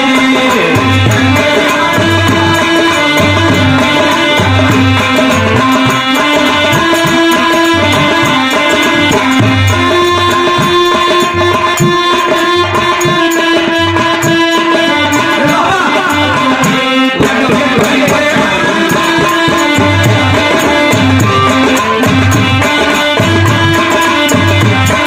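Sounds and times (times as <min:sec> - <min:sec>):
dholak drum rhythm: 0:00.0 - 0:25.0
harmonium chords: 0:00.0 - 0:25.0.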